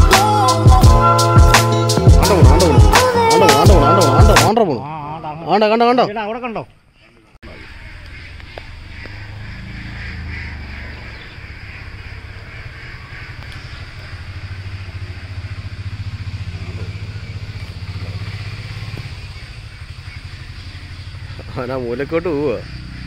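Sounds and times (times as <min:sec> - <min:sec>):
engine throbbing: 0:00.0 - 0:04.6, 0:07.4 - 0:23.0.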